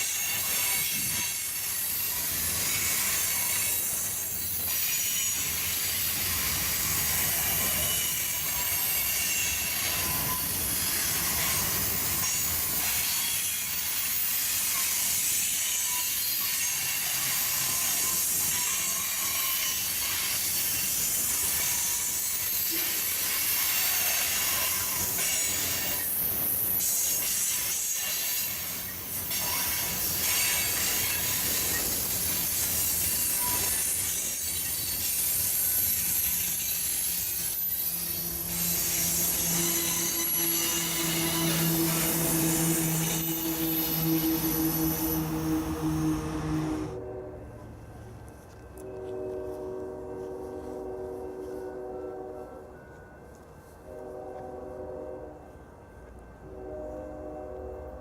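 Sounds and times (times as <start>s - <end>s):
hiss from rails: 0.0s - 47.0s
train wheel squeal: 0.0s - 47.0s
freight train cars rumbling: 0.0s - 58.0s.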